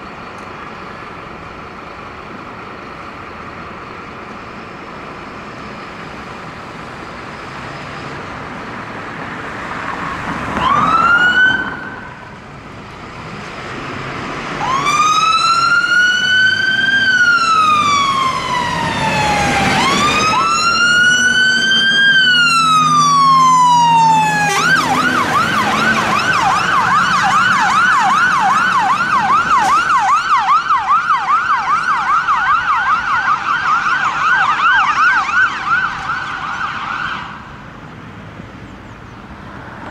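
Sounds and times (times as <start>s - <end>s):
fire engine siren: 0.0s - 37.6s
truck engine: 0.0s - 39.9s.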